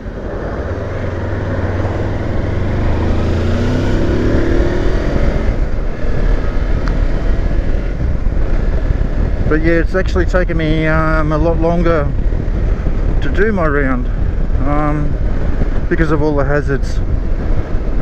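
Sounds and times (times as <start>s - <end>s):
motorcycle engine accelerating: 0.0s - 15.9s.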